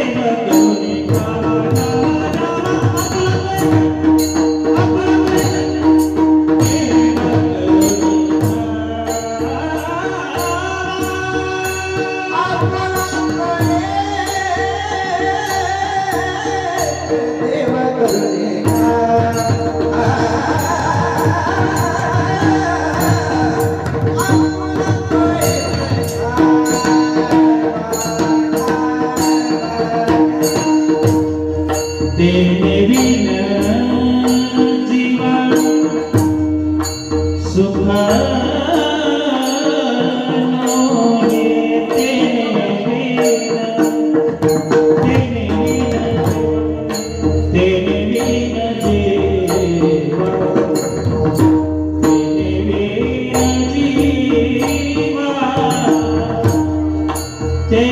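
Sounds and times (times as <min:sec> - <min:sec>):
hand drum: 0:00.0 - 0:57.9
men singing devotional tune: 0:00.0 - 0:57.9.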